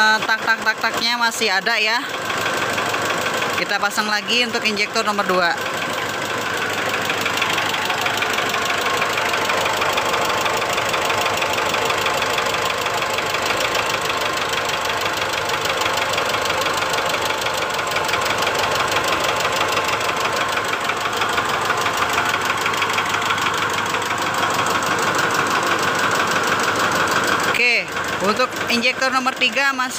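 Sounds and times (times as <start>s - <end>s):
diesel engine idling rough: 0.0s - 29.9s
engine knocking: 0.0s - 29.9s.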